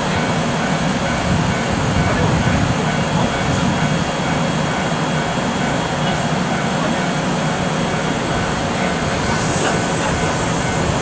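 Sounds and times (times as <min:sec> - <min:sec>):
locomotive cooling blowers whirring: 0:02.2 - 0:11.0.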